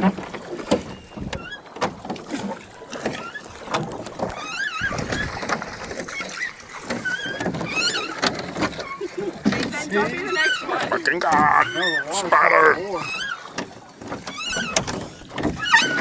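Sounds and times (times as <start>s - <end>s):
water noise from paddle strokes: 0.0s - 16.0s.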